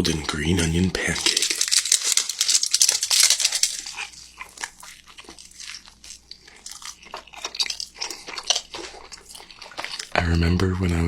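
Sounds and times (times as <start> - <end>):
biting into crispy food: 0.0 - 10.4
crunchy chewing: 0.0 - 10.4.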